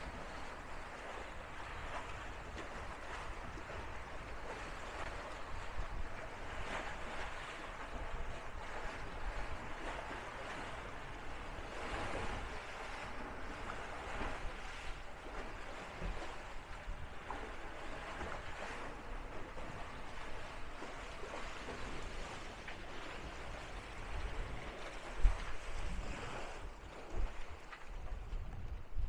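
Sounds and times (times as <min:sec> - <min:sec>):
water rushing along hulls: 0:00.0 - 0:29.0
wind buffeting microphone: 0:00.0 - 0:29.0.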